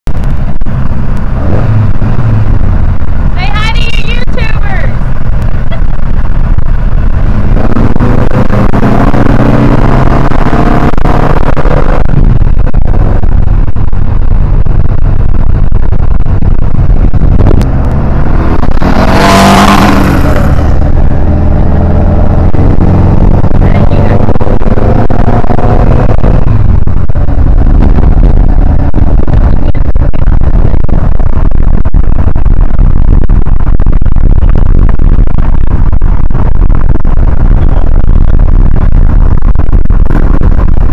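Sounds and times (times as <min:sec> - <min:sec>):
turbocharged car engine accelerating: 0:00.1 - 0:40.9.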